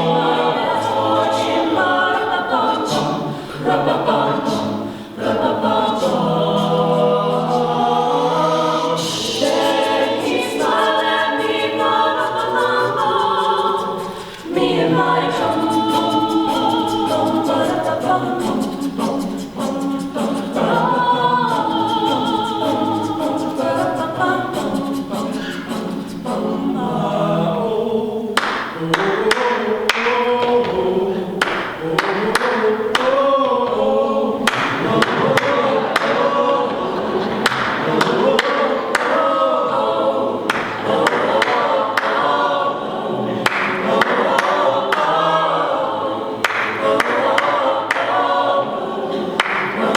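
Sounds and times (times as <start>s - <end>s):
a cappella choir singing: 0.0s - 49.9s
percussive vocal accents: 0.0s - 49.9s.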